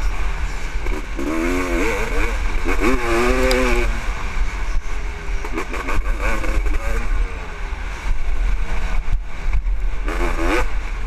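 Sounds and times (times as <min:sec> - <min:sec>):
motorcycle engine revving: 0:00.0 - 0:11.0
wind buffeting microphone: 0:00.0 - 0:11.0.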